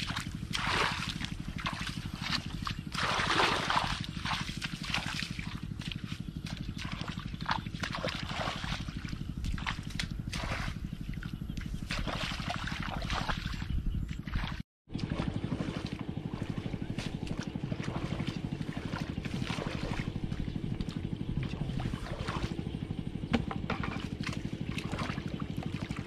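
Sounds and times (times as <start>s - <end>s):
small engine running: 0.0s - 13.4s, 14.9s - 26.0s
feet wading through muddy water: 0.0s - 26.0s.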